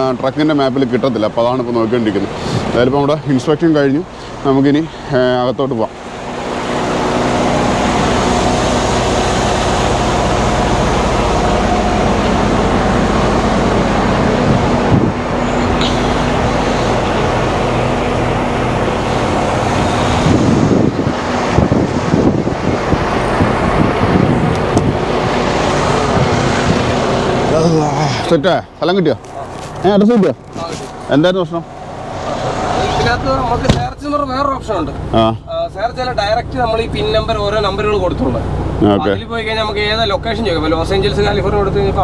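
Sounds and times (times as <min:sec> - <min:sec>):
truck diesel engine idling: 0:00.0 - 0:42.0.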